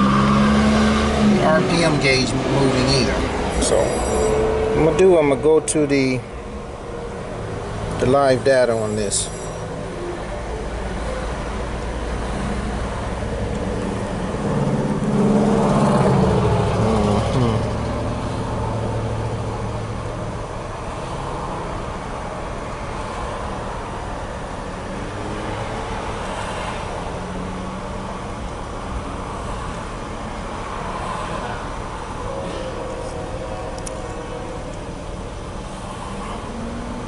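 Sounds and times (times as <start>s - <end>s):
car engine idling: 1.2s - 37.0s.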